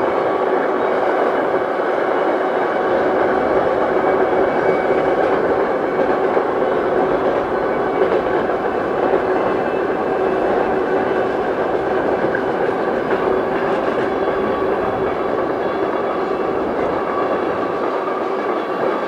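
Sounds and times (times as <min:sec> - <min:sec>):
freight train cars rolling on rails: 0:00.0 - 0:19.0.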